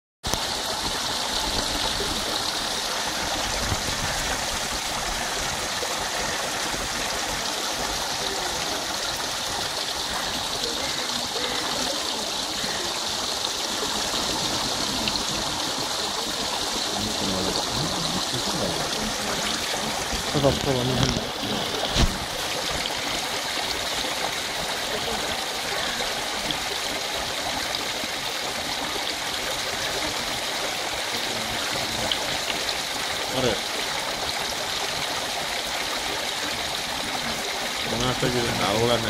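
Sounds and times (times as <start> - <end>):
small waterfall splashing: 0.2 - 39.0.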